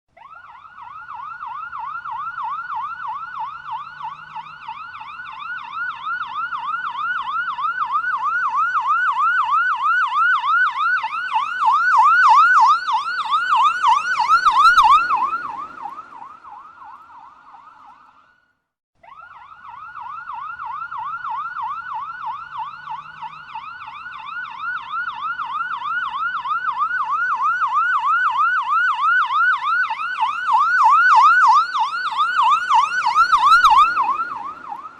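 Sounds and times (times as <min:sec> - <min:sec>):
police siren yelping: 0:00.2 - 0:18.3, 0:19.0 - 0:34.9.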